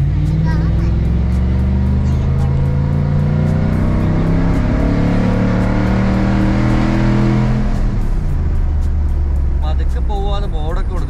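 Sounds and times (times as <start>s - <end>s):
truck engine accelerating: 0.0s - 11.0s.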